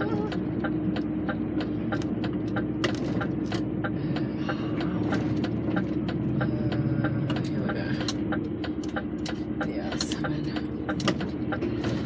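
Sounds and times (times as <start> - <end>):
lorry engine running: 0.0 - 12.0
regular ticking: 0.2 - 12.0.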